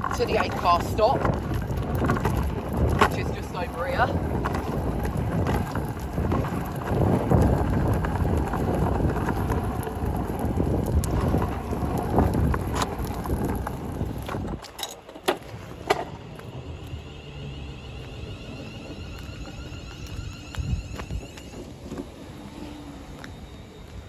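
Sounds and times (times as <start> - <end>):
wind buffeting microphone: 0.0 - 14.8, 15.4 - 24.0
electric train rumbling: 0.0 - 24.0.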